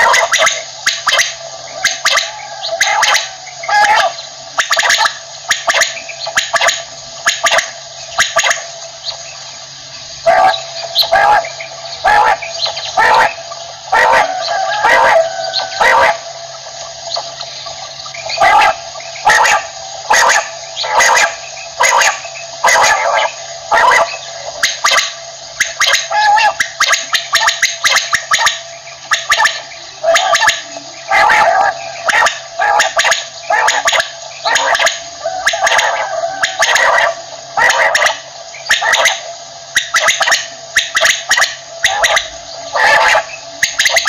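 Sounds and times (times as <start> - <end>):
quail calling: 0.0 - 44.0.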